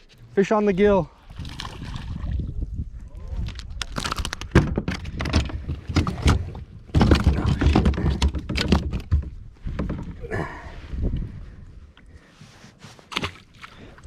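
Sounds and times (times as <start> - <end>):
wind rumbling on microphone: 0.6 - 12.3.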